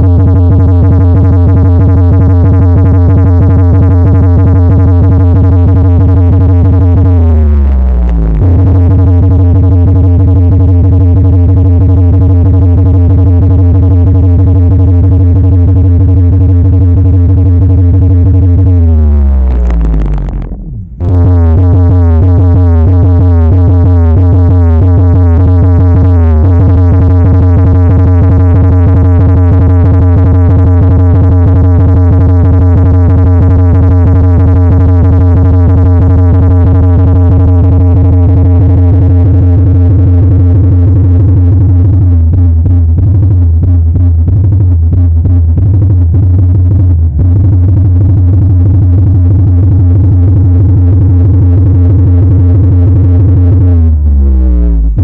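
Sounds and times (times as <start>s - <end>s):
electronic dance music with heavy bass: 0.0s - 55.0s.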